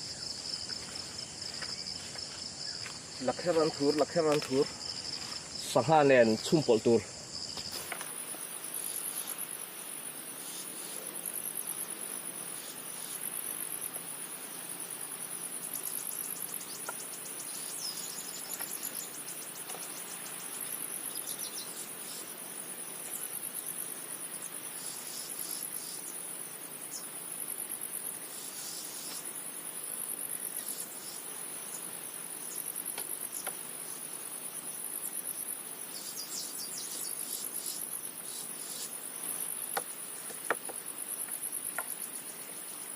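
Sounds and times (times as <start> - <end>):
constant hiss: 0.0 - 42.9
insects trilling: 0.0 - 42.9.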